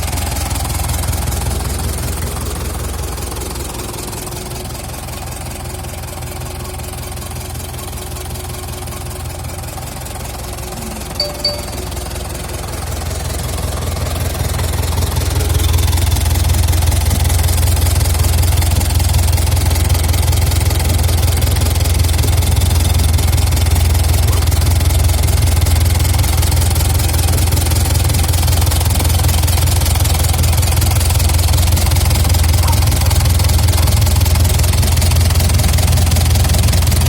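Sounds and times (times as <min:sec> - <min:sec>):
diesel engine running: 0:00.0 - 0:11.2, 0:11.9 - 0:37.0.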